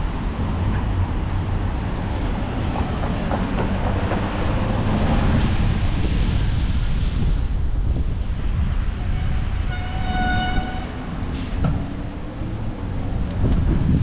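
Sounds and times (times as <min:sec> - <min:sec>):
low rumble of street traffic: 0:00.0 - 0:14.0.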